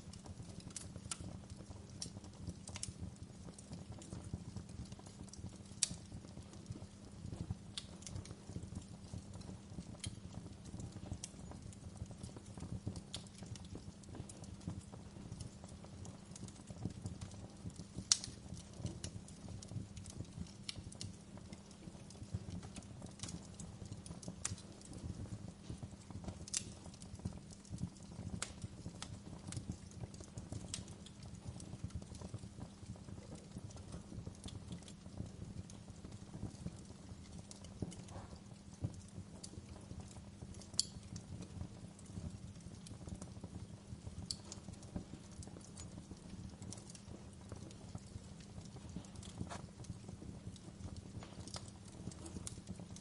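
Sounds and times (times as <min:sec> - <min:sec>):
fireplace crackling and popping: 0:00.0 - 0:53.0.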